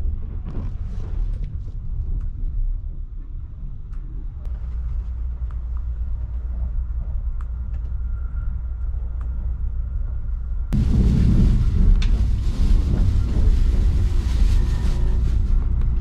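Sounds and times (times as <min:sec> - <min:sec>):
train cabin low rumble: 0:00.0 - 0:16.0.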